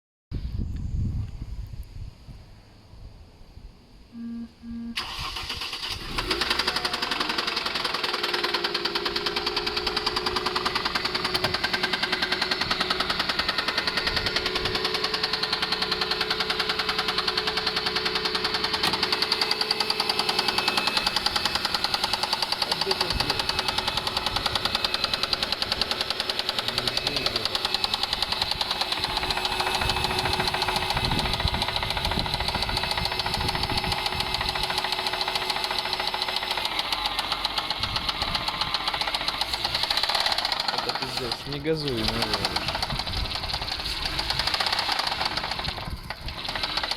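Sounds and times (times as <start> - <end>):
car engine cranking and starting: 4.2 - 46.9
engine idling with rhythmic knock: 6.5 - 46.9.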